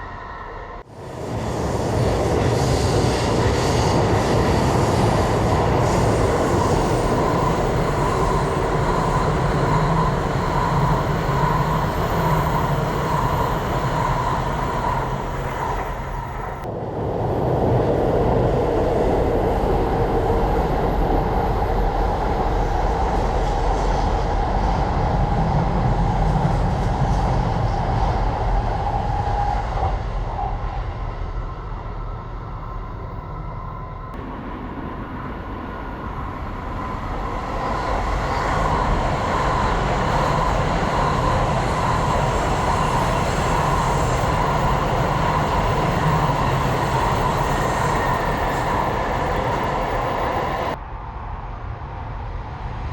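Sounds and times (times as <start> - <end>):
train rumble with humming whine: 0.0 - 52.9.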